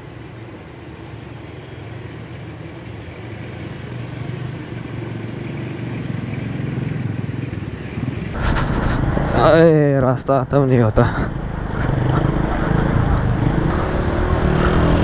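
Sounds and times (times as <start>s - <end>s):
motorcycles passing on dirt track: 0.7s - 9.9s, 11.0s - 15.0s.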